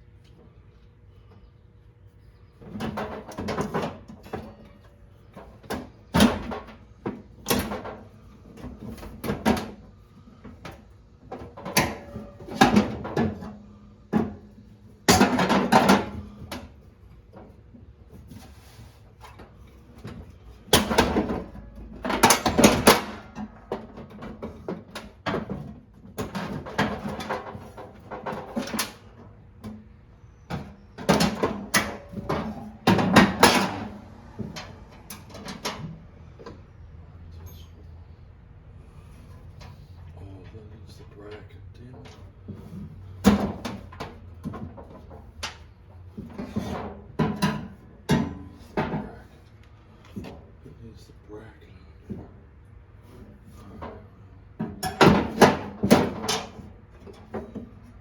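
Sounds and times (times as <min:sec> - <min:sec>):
tools and parts knocking and rattling: 0:02.5 - 0:18.5, 0:19.1 - 0:36.7, 0:39.5 - 0:50.6, 0:52.0 - 0:58.0.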